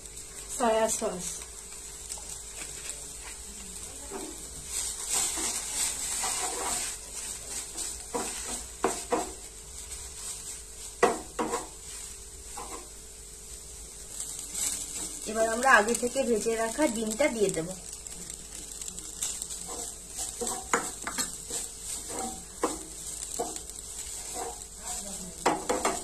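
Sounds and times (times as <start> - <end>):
noodles sizzling in frying pan: 0.0 - 26.0.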